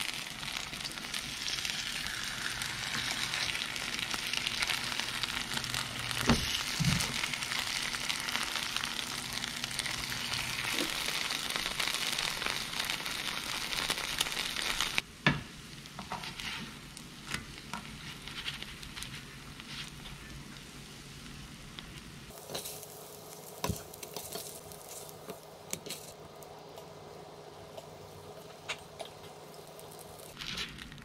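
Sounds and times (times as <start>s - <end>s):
batter sizzling in oil: 0.0s - 31.0s.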